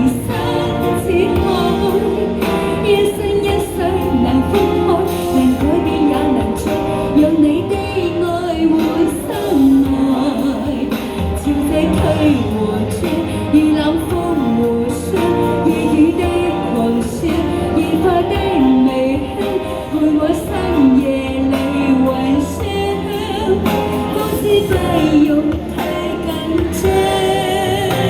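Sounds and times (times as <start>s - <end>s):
pop music with lead melody: 0.0s - 28.0s.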